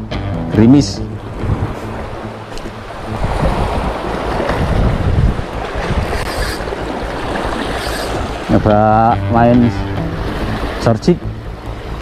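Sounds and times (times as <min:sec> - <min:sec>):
sea surf against rocks: 0:00.5 - 0:12.0
wind buffeting microphone: 0:01.0 - 0:12.0.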